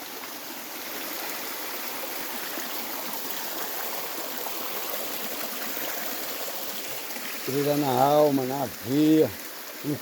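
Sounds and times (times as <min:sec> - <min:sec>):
running water rushing: 0:00.0 - 0:10.0.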